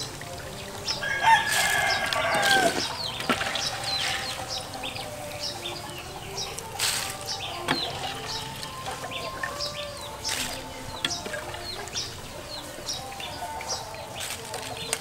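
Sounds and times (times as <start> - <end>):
small birds chirping: 0.0 - 15.0
rooster crowing: 0.9 - 14.9.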